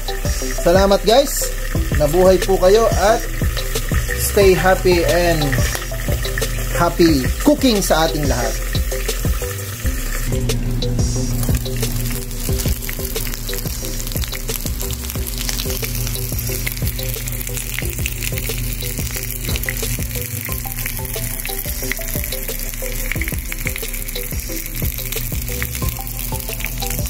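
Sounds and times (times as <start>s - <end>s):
fish sizzling in hot oil: 0.0s - 27.0s
oil crackling and popping: 0.0s - 27.0s.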